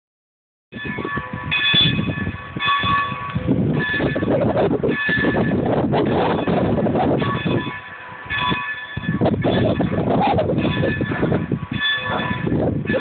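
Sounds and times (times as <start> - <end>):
steam locomotive bell ringing: 0.8 - 13.0
train rumbling and chuffing: 0.8 - 13.0.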